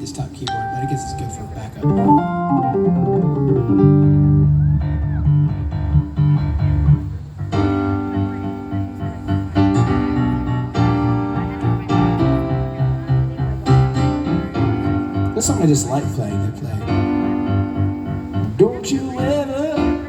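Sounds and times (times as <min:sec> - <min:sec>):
keyboard chords: 0:00.5 - 0:20.0.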